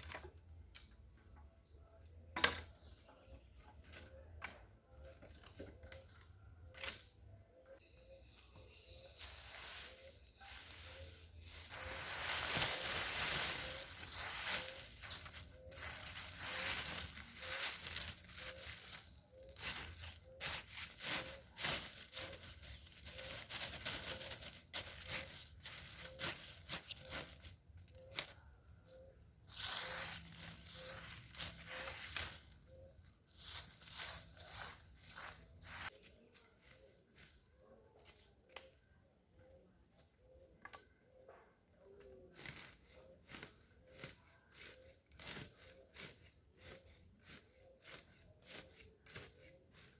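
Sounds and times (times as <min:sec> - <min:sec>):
dry leaves and twigs crackling: 0:00.0 - 0:38.8, 0:41.9 - 0:49.9.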